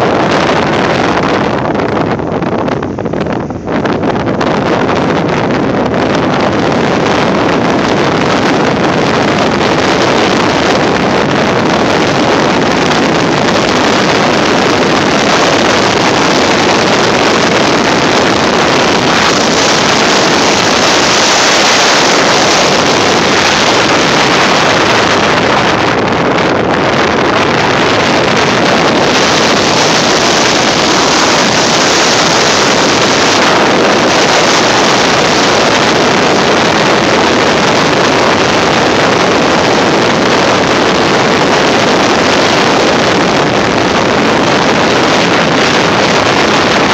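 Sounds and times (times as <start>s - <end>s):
car road noise: 0.0s - 46.9s
wind buffeting microphone: 0.0s - 46.9s
wind rushing: 0.0s - 46.9s.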